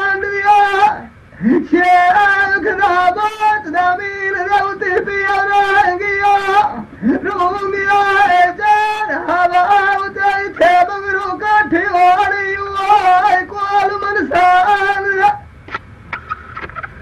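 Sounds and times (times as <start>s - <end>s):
high voice singing folk song: 0.0s - 15.5s.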